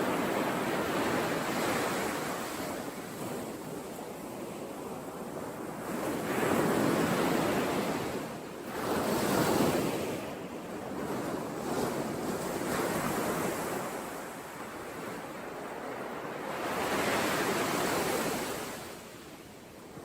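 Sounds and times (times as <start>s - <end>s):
ocean waves breaking on shore: 0.0s - 20.0s
wind: 0.0s - 20.0s.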